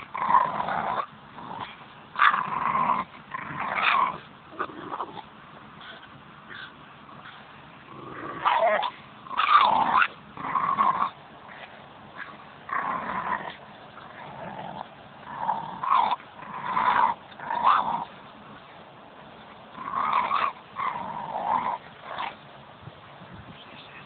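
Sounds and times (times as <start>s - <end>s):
dog play growling: 0.0s - 22.5s.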